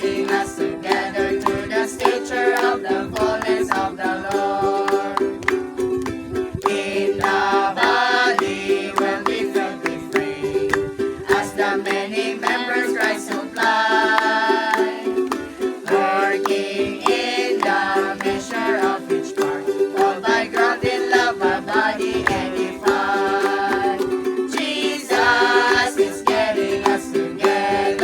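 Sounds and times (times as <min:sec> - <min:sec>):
congregation singing a hymn: 0:00.0 - 0:05.3, 0:06.6 - 0:28.0
strummed string instrument: 0:00.0 - 0:28.0.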